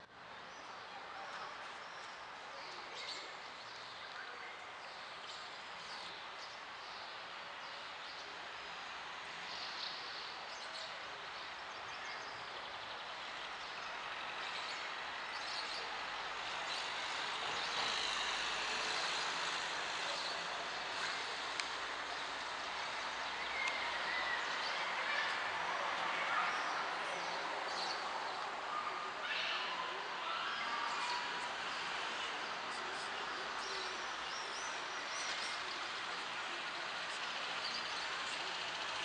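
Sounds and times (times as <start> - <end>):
outdoor background noise: 0.0 - 39.0.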